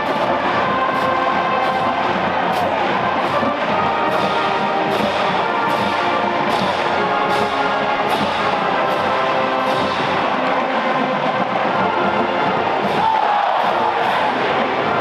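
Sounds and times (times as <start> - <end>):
brass sustained chords: 0.0 - 13.0
marching band playing: 0.0 - 15.0
percussion hits on a beat: 0.0 - 15.0.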